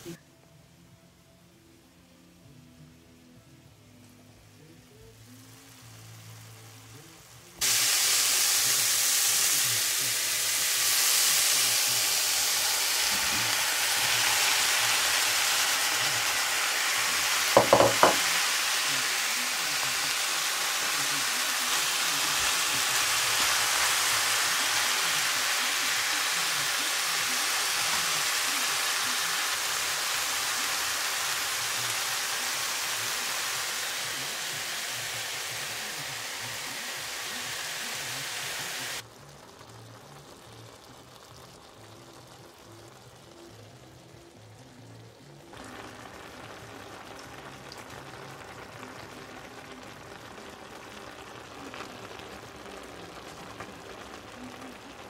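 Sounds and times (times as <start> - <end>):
vegetables sizzling in a pan: 4.8 - 55.0.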